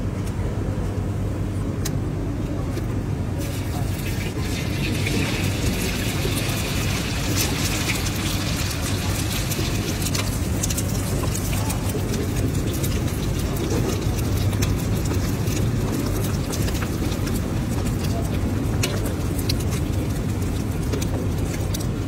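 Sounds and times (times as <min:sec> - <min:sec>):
steady low rumble: 0:00.0 - 0:22.0
eggs frying with crackles: 0:03.4 - 0:22.0.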